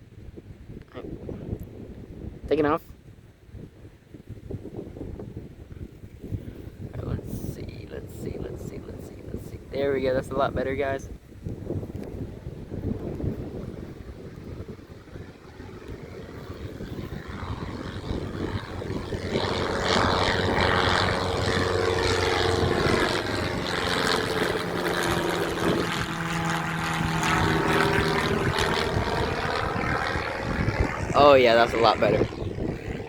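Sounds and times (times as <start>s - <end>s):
propeller airplane passing: 1.0s - 33.0s.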